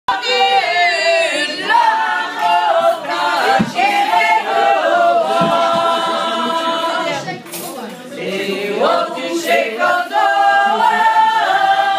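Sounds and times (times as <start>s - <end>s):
women singing unaccompanied: 0.1s - 7.4s, 8.2s - 11.9s.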